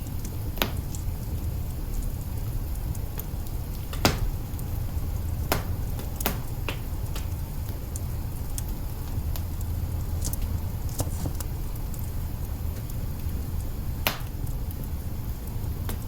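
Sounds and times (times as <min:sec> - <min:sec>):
low steady fire rumble: 0:00.0 - 0:16.0
wood fire crackling and popping: 0:00.0 - 0:16.0.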